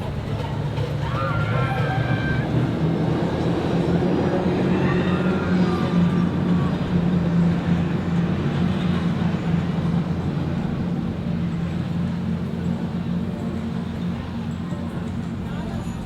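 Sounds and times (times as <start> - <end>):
motorboat engines droning: 0.0 - 16.0.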